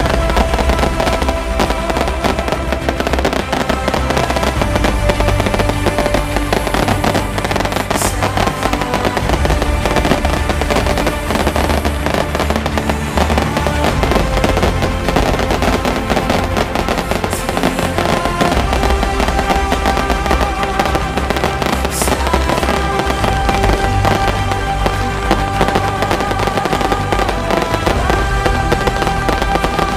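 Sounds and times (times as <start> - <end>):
fireworks crackling: 0.0 - 29.9
music playing: 0.0 - 29.9.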